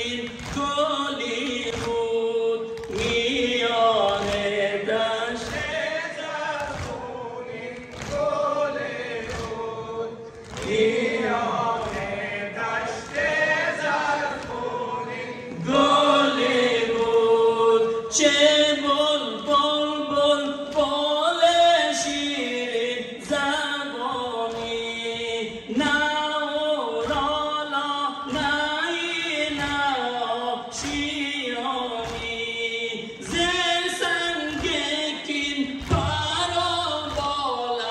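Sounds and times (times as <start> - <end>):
voices chanting a mourning lament: 0.0 - 37.9.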